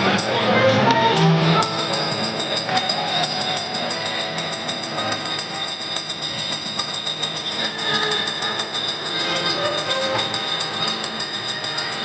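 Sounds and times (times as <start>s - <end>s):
train high squeal: 1.1s - 12.0s.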